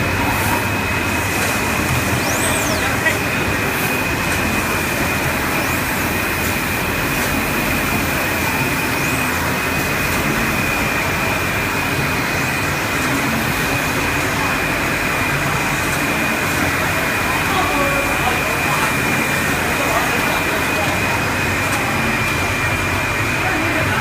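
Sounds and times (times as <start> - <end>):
constant high whine: 0.0 - 24.0
machine hum and fan noise: 0.0 - 24.0.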